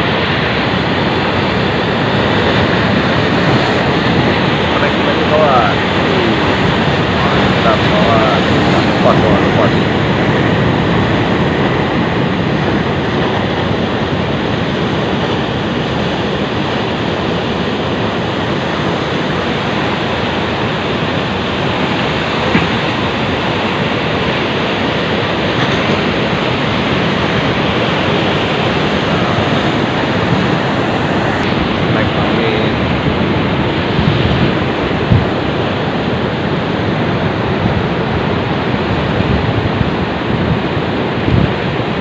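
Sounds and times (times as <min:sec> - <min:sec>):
sea surf washing: 0:00.0 - 0:42.0
wind: 0:00.0 - 0:42.0.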